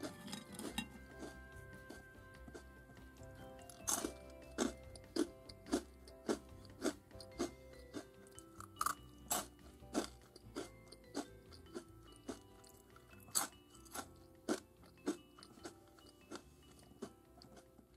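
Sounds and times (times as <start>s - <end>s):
crunchy snack sticks being chewed: 0.0s - 2.9s, 3.6s - 17.9s
soft music: 0.0s - 17.9s.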